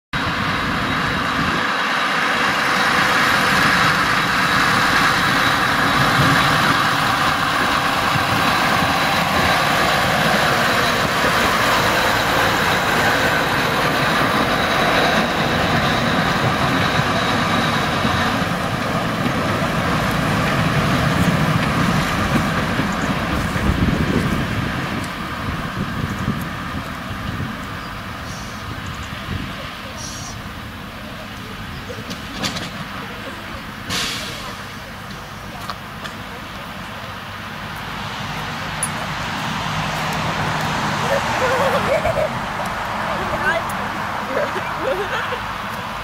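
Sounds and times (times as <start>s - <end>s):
diesel locomotive engine passing: 0.2s - 46.0s.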